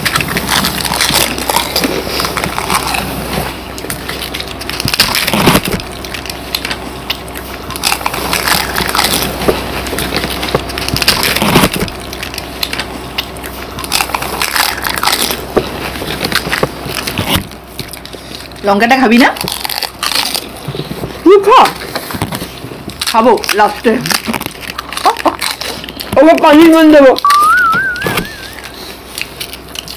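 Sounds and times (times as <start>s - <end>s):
crisp shells crunching: 0.0s - 29.9s.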